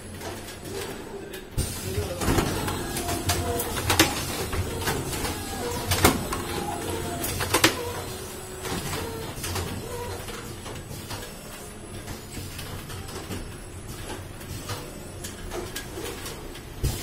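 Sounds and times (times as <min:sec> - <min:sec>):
printing machine clatter: 0:00.0 - 0:17.0.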